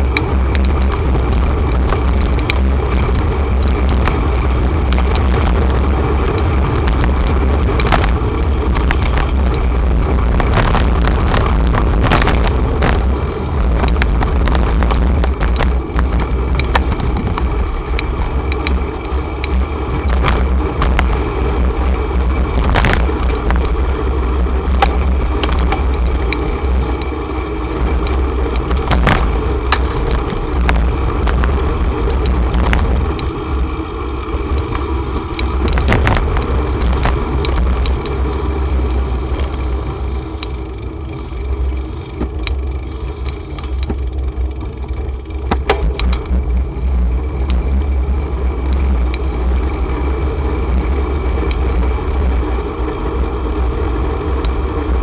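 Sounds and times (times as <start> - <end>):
bicycle rattles and clicks: 0.0 - 55.0
wind and road rumble: 0.0 - 55.0.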